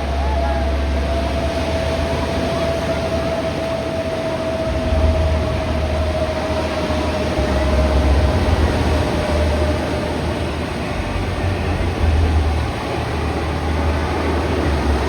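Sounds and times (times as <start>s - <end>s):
jet engine whine and roar: 0.0s - 15.0s
wind buffeting microphone: 0.0s - 15.0s.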